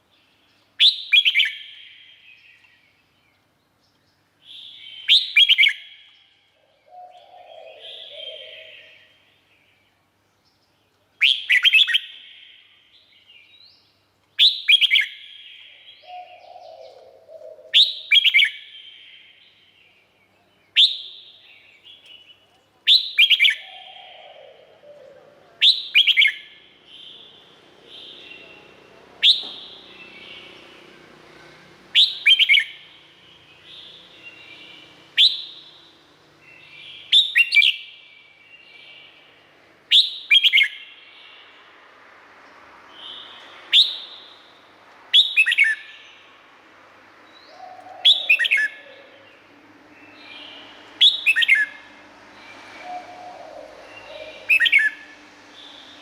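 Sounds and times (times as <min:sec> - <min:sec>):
bird singing whistled notes: 0:00.3 - 0:03.2, 0:04.4 - 0:09.9, 0:11.2 - 0:17.0, 0:17.7 - 0:24.6, 0:25.6 - 0:30.8, 0:31.9 - 0:41.6, 0:42.9 - 0:46.3, 0:47.2 - 0:49.4, 0:50.0 - 0:51.8, 0:52.4 - 0:56.0.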